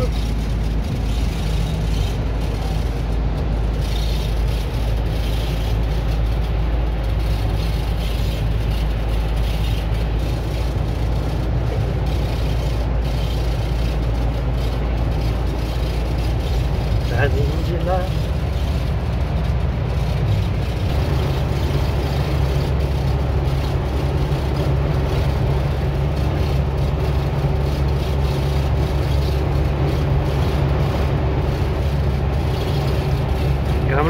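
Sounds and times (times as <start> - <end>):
road noise hiss: 0.0 - 34.0
vehicle engine rumble: 0.0 - 34.0.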